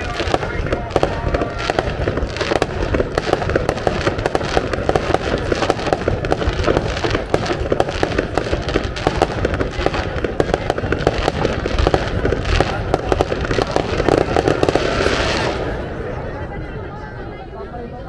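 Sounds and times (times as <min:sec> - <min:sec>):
fireworks bursting and crackling: 0:00.0 - 0:16.8.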